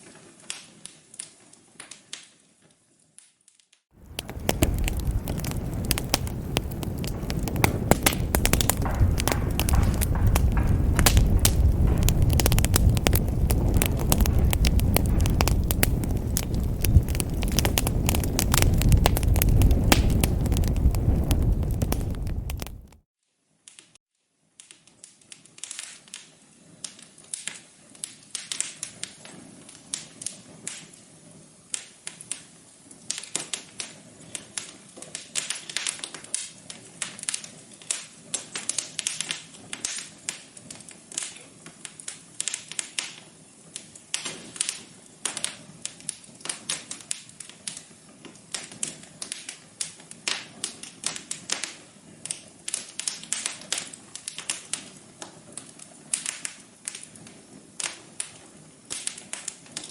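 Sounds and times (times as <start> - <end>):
wood fire crackling: 4.0 - 23.0, 24.6 - 59.9.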